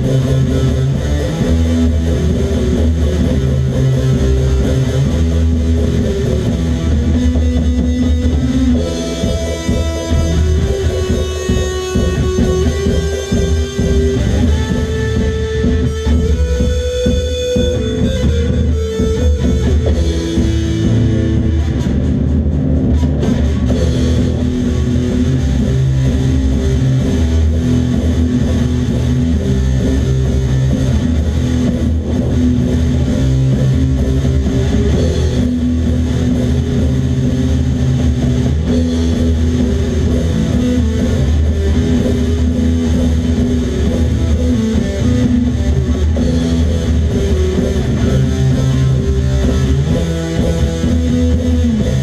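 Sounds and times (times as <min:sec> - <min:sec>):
drums: 0:00.0 - 0:52.0
electric guitar: 0:00.0 - 0:52.0
rock band playing: 0:00.0 - 0:52.0.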